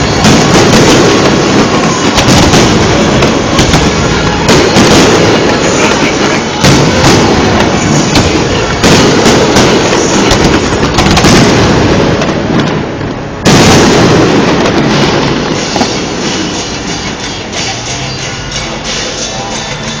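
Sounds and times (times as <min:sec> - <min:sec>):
firework crackles and bangs: 0:00.0 - 0:19.4
loud firework bursts: 0:00.0 - 0:19.6.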